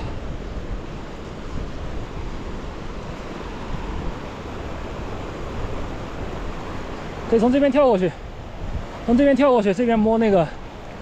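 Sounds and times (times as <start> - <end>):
wind buffeting microphone: 0.0 - 11.0
running meltwater: 2.0 - 11.0.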